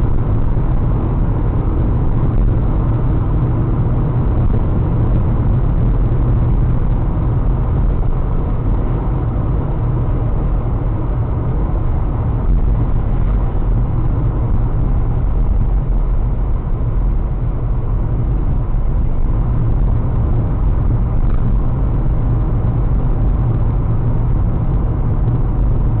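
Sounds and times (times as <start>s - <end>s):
car engine rumble: 0.0s - 26.0s
road noise: 0.0s - 26.0s.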